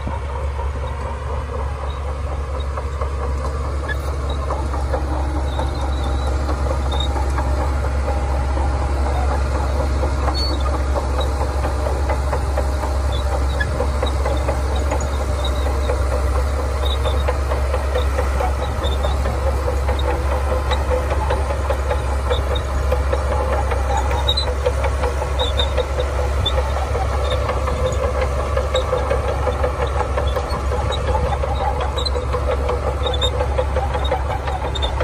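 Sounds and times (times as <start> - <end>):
diesel machinery engine drone: 0.0 - 35.0.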